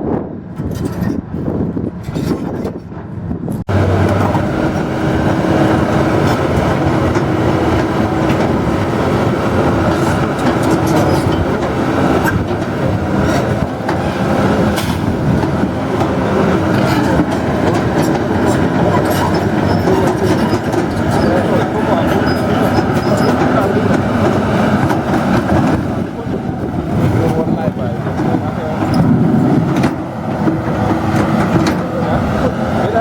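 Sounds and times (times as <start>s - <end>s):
diesel engine running under load: 3.6s - 33.0s
knocks and clanks: 3.6s - 33.0s.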